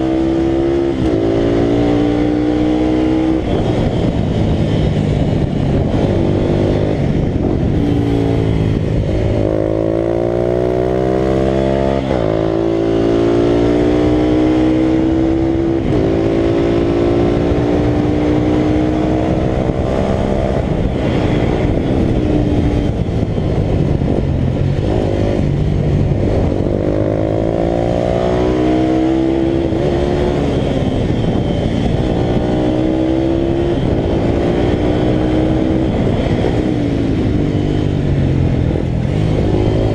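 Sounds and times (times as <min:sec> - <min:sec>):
motorcycle engine at high revs: 0:00.0 - 0:39.9
wind noise: 0:00.0 - 0:39.9.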